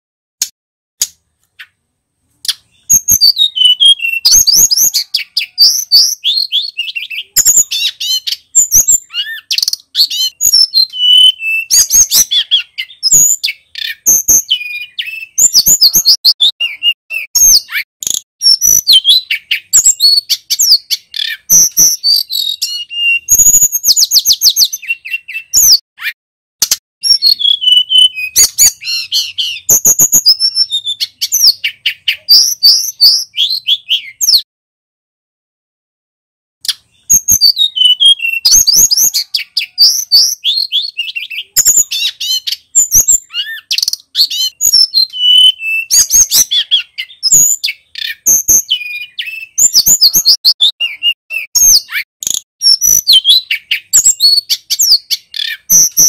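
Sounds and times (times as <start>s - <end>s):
bird singing chirps and trills: 1.4s - 26.2s, 27.0s - 34.5s, 36.6s - 56.0s.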